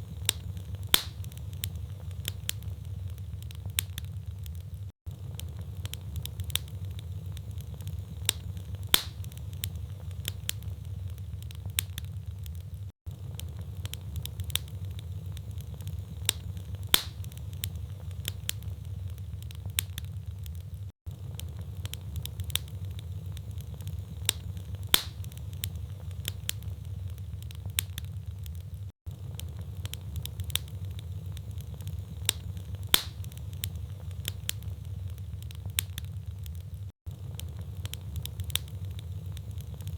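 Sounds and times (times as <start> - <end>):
logs crackling and popping: 0.0 - 39.9
low rumble of flame: 0.0 - 39.9.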